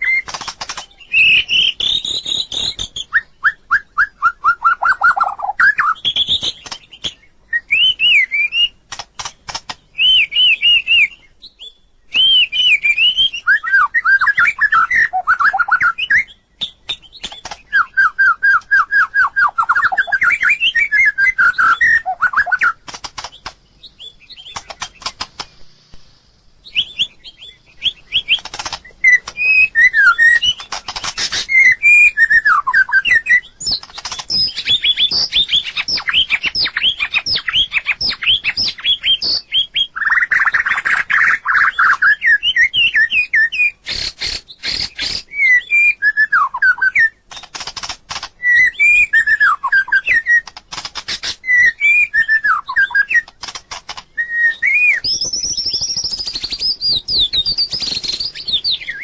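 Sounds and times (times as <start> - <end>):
bird singing whistled phrases: 0.0 - 8.8, 9.9 - 25.8, 26.6 - 47.5, 48.4 - 50.5, 51.2 - 53.3, 54.1 - 59.0
sharp bird clicks: 0.0 - 59.0.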